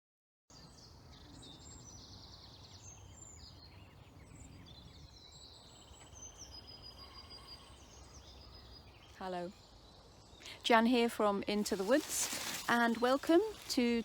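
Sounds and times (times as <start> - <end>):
songbirds singing and calling: 0.5 - 14.0.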